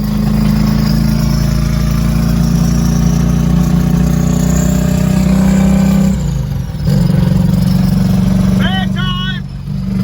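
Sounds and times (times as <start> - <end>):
engine running under load: 0.0 - 10.0.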